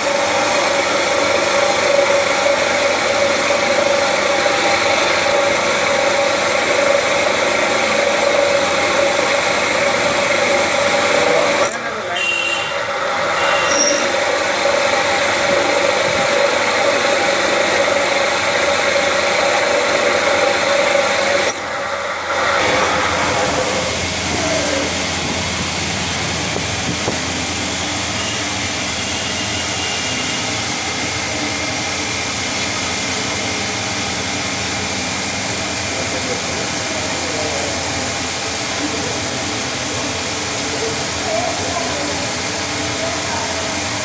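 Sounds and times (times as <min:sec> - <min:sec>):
machine tool humming and hissing: 0:00.0 - 0:44.0.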